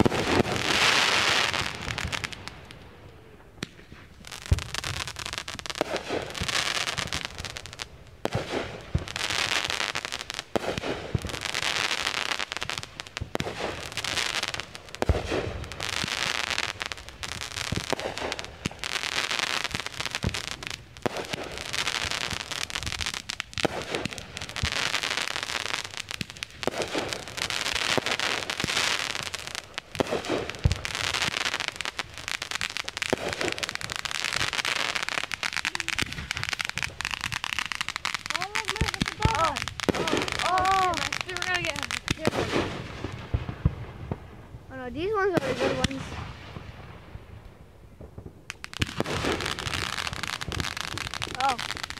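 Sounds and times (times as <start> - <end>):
firework booms: 0.0 - 51.9
firework crackling and hissing: 0.0 - 51.9.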